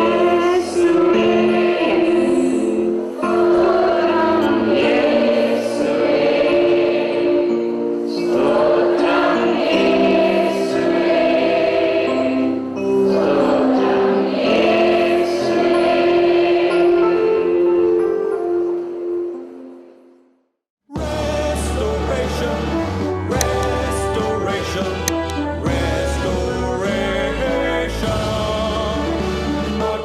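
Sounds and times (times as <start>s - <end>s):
choir singing: 0.0s - 18.1s, 21.0s - 30.0s.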